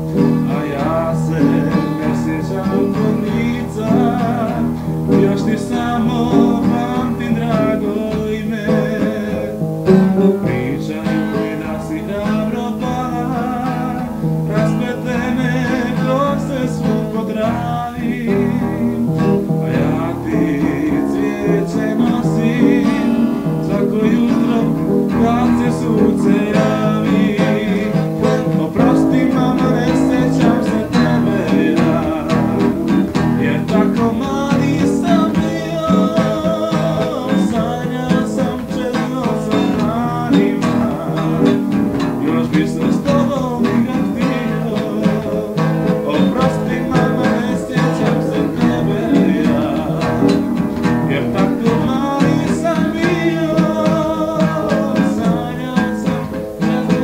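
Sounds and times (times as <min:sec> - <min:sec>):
acoustic guitar: 0:00.0 - 0:57.0
out-of-tune upright piano: 0:00.0 - 0:57.0
person singing: 0:00.0 - 0:57.0.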